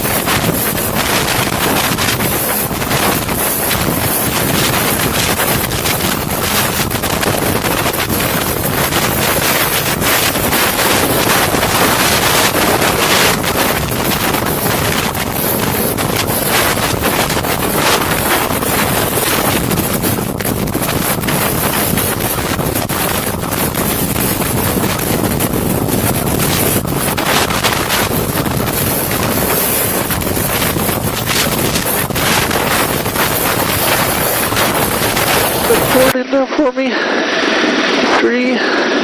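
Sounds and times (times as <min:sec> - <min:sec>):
helicopter rotor and engine: 0:00.0 - 0:36.2
wind buffeting microphone: 0:00.0 - 0:36.2.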